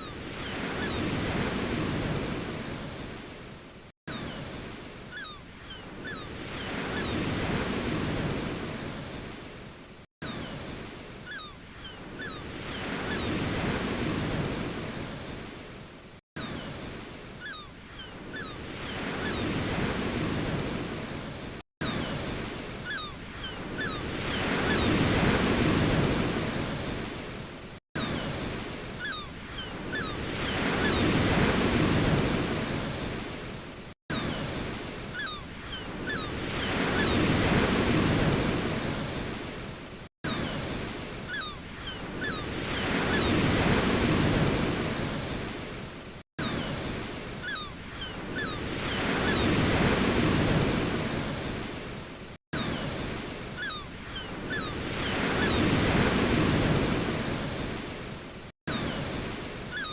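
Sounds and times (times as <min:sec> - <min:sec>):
ocean surf washing: 0:00.0 - 0:03.6, 0:04.4 - 0:15.9, 0:16.5 - 0:59.9.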